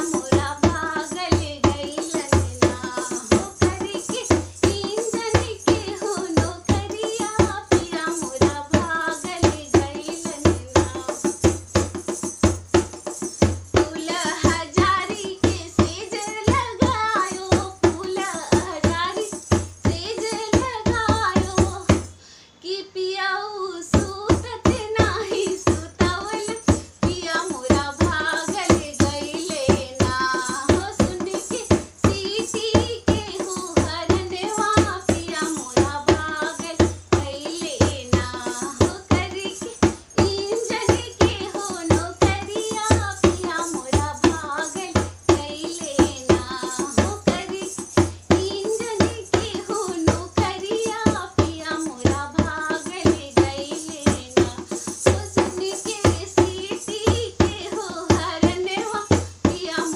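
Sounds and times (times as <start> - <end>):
percussion beat: 0.0 - 22.2, 23.8 - 59.9
woman singing folk song: 0.0 - 59.9.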